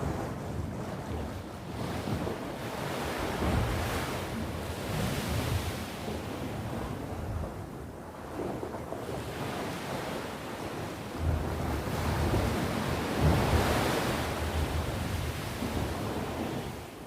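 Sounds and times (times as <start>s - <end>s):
sea waves breaking: 0.0s - 7.5s, 8.3s - 16.9s
wind buffeting microphone: 0.0s - 17.0s.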